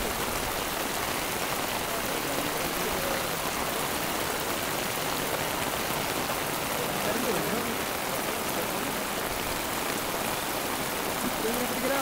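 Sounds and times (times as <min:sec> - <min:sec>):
heavy rain on water: 0:00.0 - 0:12.0.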